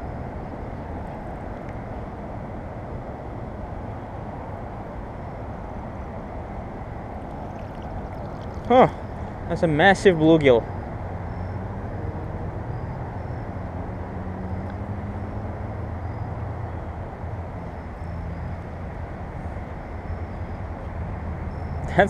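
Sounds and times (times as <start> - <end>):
distant road traffic rumble: 0.0 - 22.0.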